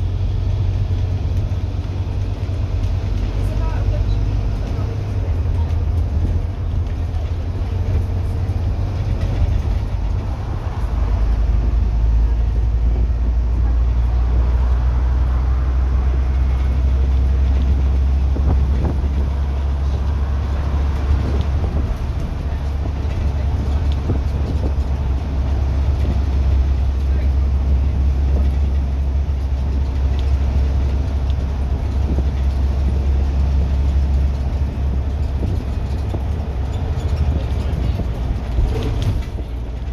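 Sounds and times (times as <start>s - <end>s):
bus diesel engine drone: 0.0s - 39.9s
road and body noise: 0.0s - 39.9s.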